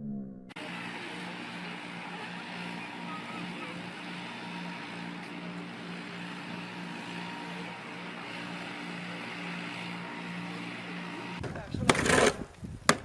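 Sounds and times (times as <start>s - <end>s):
pulsing motor drone: 0.0s - 12.4s.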